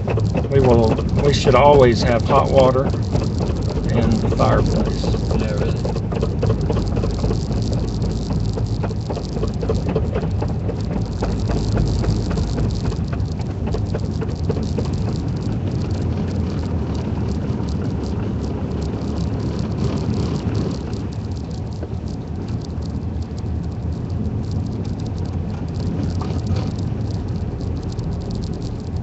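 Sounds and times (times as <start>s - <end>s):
car engine and tyres rumbling: 0.0s - 29.0s
small irregular clicks and crackles: 0.0s - 29.0s.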